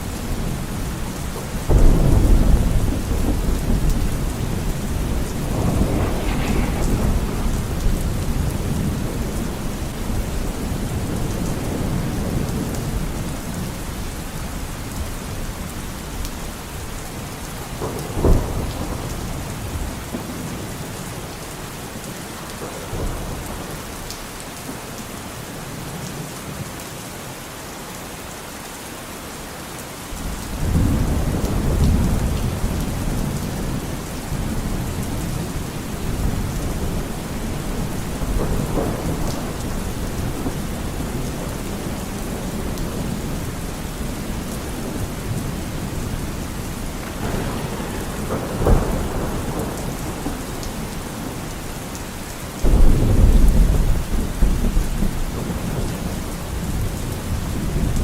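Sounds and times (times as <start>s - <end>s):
thunder rumbling and cracking: 0.0s - 24.8s, 30.2s - 58.0s
steady rain: 0.0s - 58.0s.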